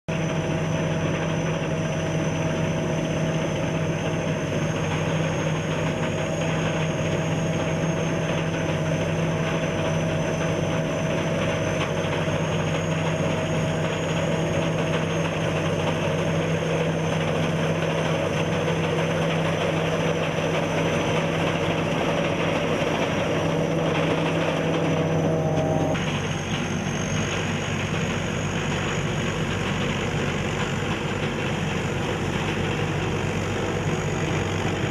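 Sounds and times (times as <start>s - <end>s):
combine harvester engine hum: 0.1s - 34.9s
high machinery whine: 0.1s - 34.9s.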